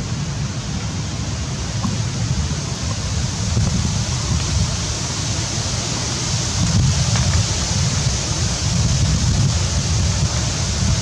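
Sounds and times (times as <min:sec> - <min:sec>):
even hiss: 0:00.0 - 0:11.0
wind buffeting microphone: 0:00.0 - 0:11.0.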